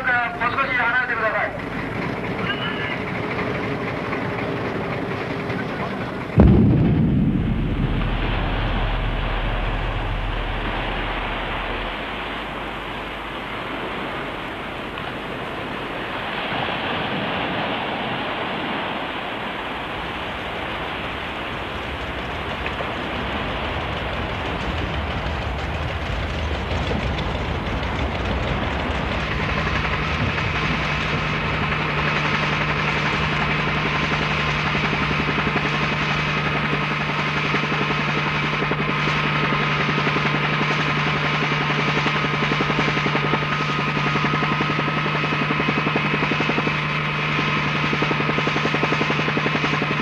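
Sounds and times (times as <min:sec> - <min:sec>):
helicopter rotor chop: 0:00.0 - 0:16.2, 0:19.9 - 0:50.0
steady hum: 0:00.0 - 0:16.4, 0:20.4 - 0:50.0.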